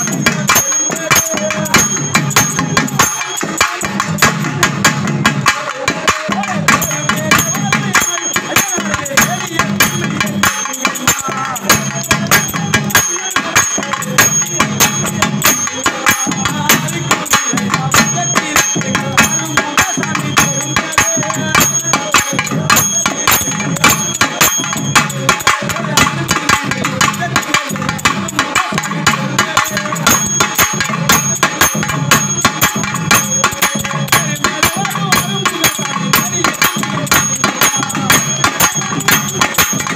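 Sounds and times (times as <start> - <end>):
drums in fast rhythm: 0.0 - 39.9
ringing metallic bell tones: 0.0 - 39.9.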